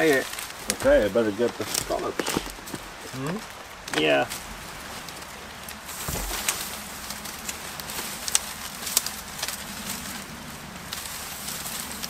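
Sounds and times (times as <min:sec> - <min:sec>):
dry reed bundles rustling: 0:00.0 - 0:12.0
stiff stalks crackling: 0:00.0 - 0:12.0.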